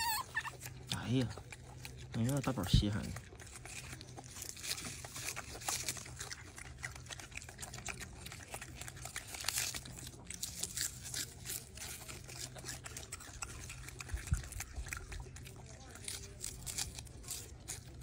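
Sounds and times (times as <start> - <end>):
monkeys chewing lettuce: 0.0 - 18.0.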